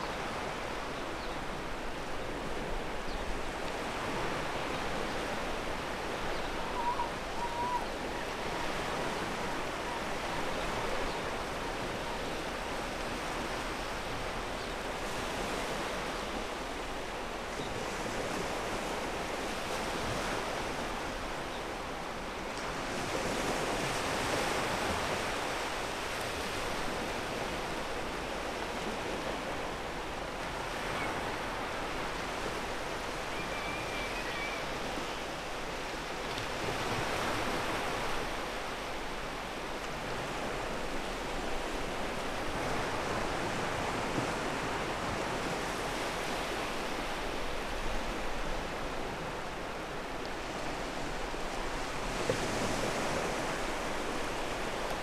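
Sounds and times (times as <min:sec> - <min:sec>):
surf on pebble beach: 0:00.0 - 0:55.0.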